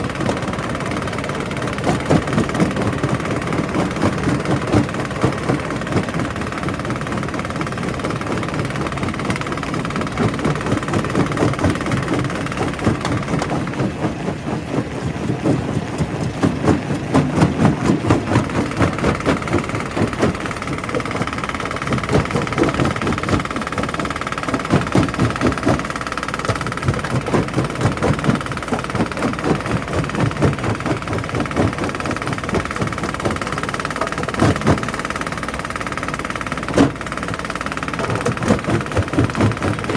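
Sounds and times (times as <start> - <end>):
rock crusher rumbling: 0.0 - 39.9
steady machine whine: 0.0 - 39.9.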